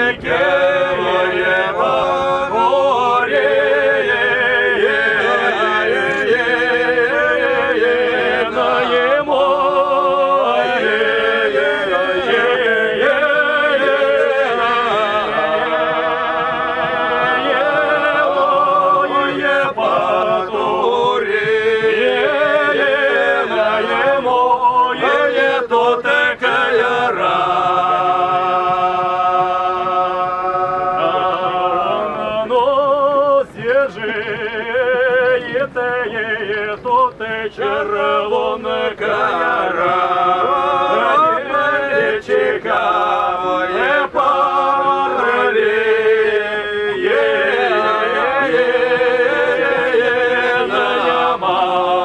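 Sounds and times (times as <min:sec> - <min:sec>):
men singing a cappella: 0:00.0 - 0:52.0.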